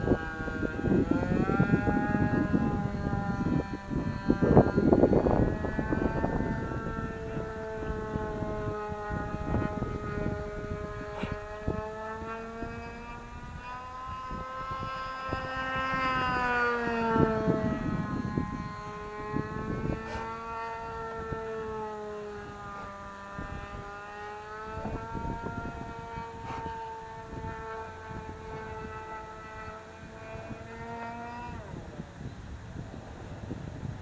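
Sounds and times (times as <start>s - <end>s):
model plane engine droning: 0.0s - 34.0s
wind rumble on microphone: 0.0s - 34.0s.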